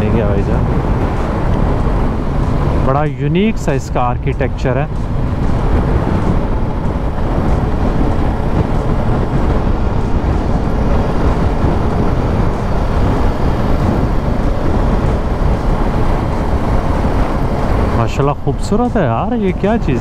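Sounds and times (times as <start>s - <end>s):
motorcycle engine and road rumble: 0.0s - 20.0s
wind rushing over microphone: 0.0s - 20.0s.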